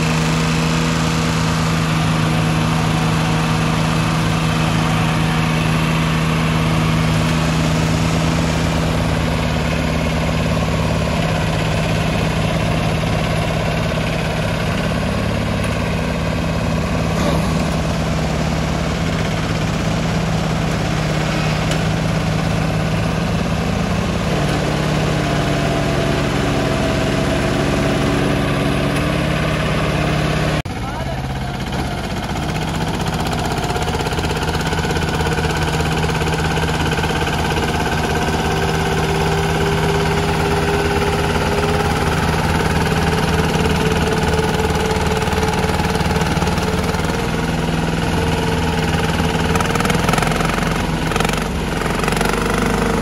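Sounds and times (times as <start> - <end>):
tractor diesel engines under load: 0.0 - 53.0.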